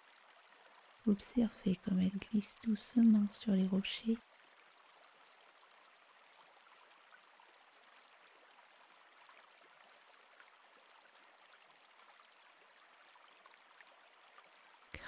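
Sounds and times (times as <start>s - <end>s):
faint stream water flowing: 0.0s - 15.0s.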